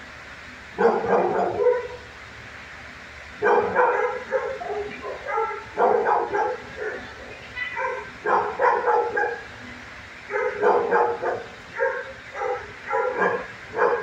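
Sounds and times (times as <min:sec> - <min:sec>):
dogs barking and yipping: 0:00.8 - 0:02.1, 0:03.4 - 0:14.0.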